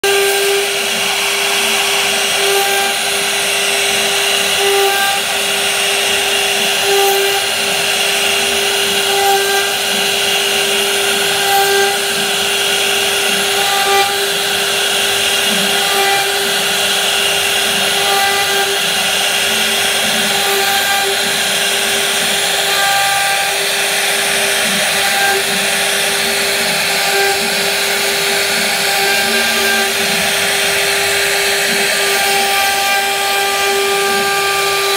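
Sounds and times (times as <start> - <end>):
router spindle whine: 0.0 - 34.9.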